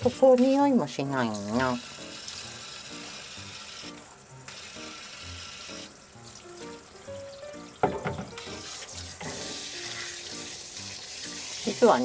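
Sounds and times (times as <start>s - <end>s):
water spray hissing: 0.0s - 7.7s, 8.3s - 12.0s
soft background music: 0.0s - 12.0s.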